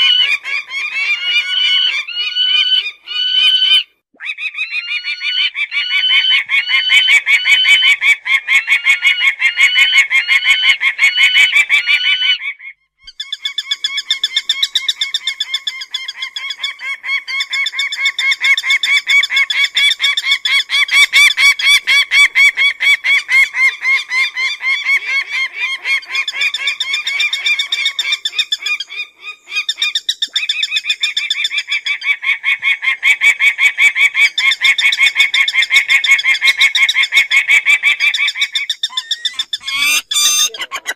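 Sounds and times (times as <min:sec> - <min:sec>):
falcon calling rapidly: 0:00.0 - 0:40.9.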